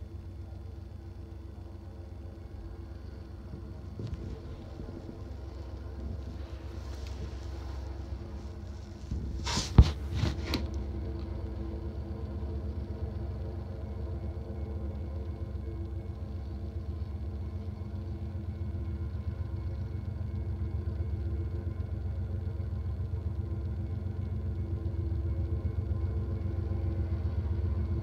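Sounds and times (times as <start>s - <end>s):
diesel locomotive engine rumble: 0.0s - 28.0s.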